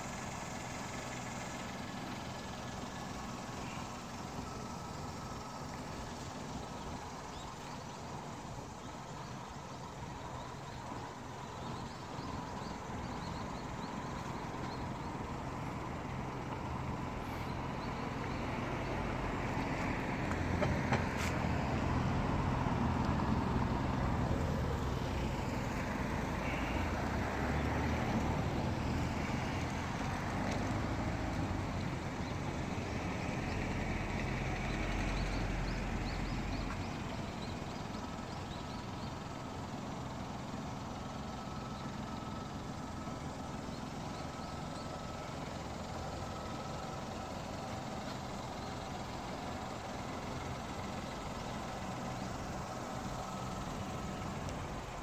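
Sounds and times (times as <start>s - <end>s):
road traffic passing: 0.0s - 55.0s
small car engine idling: 0.0s - 55.0s.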